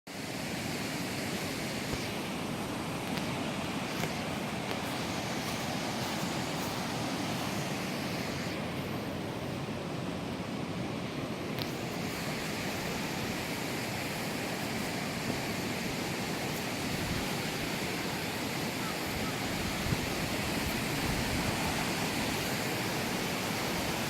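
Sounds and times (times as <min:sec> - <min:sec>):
steady outdoor rushing noise: 0:00.1 - 0:24.0.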